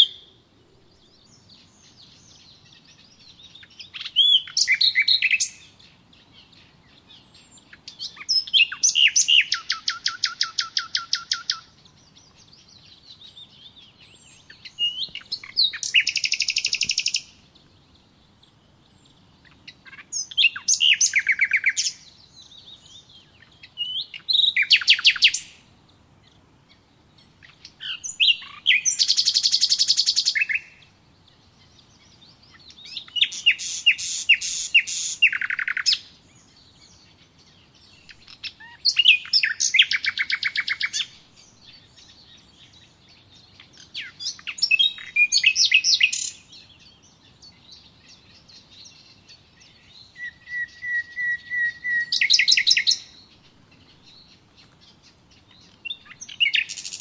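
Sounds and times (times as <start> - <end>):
faint bird chirps: 0.0 - 57.0
songbird trilling: 1.0 - 57.0.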